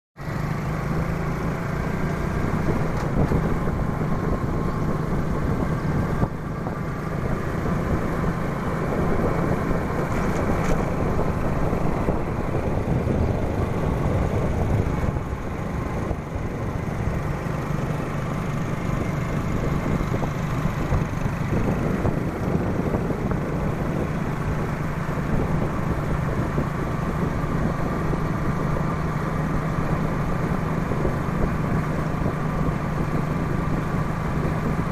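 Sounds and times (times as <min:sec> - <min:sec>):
motorbike engine running: 0:00.2 - 0:34.9
dense rushing noise: 0:02.5 - 0:34.9.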